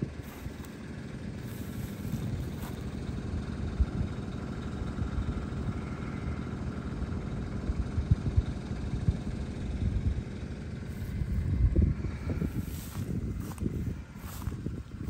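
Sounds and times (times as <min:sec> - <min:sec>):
road noise: 0:00.0 - 0:07.4, 0:10.2 - 0:15.0
vehicle engine rumble: 0:00.0 - 0:15.0.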